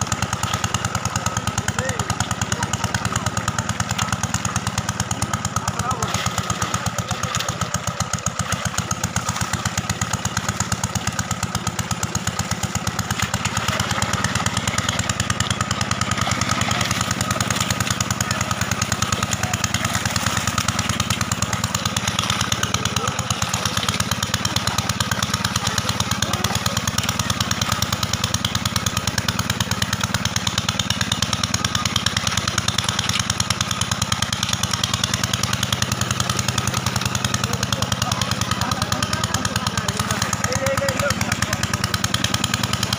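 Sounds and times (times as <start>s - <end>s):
water pump engine chugging: 0.0s - 42.9s.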